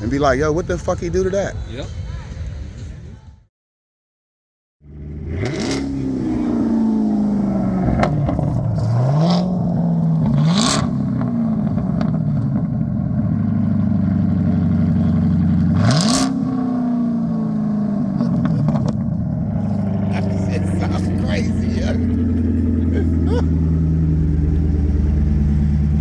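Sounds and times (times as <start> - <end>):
car engine revving: 4.8 - 26.0.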